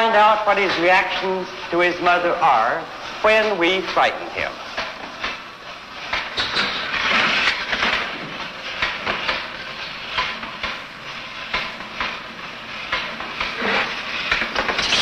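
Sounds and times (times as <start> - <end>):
mechanical apparatus hissing rattle: 0.8 - 15.0.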